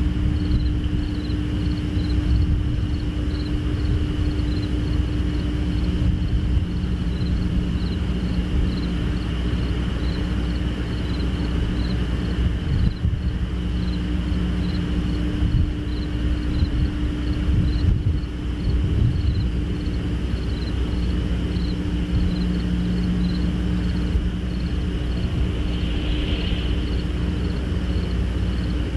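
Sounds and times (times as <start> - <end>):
low rumble with hum: 0.0 - 28.9
night insects chirping: 0.0 - 28.9.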